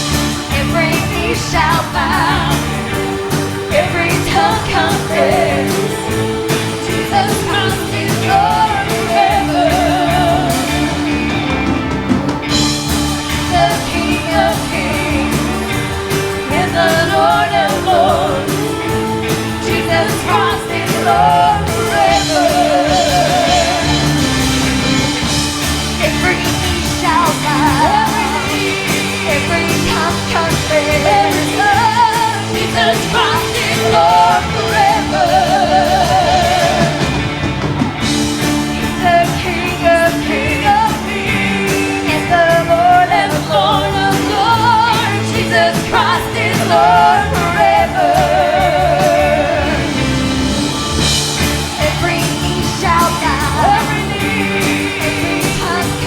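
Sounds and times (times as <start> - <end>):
person singing: 0.0 - 56.0
praise band playing: 0.0 - 56.0
vibrato lead melody: 0.0 - 56.0.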